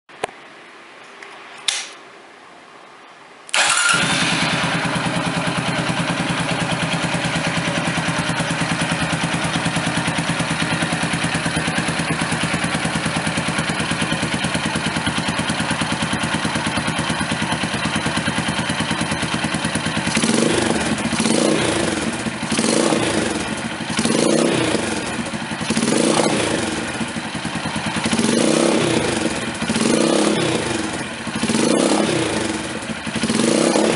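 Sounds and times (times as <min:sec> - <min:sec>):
motorcycle starting and idling: 0:03.5 - 0:33.9.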